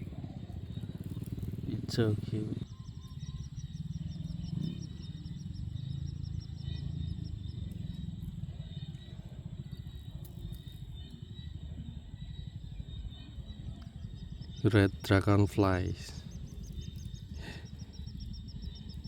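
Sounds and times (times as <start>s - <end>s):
fast high-pitched chirping: 0.0s - 19.0s
wind rumble on microphone: 0.0s - 19.0s.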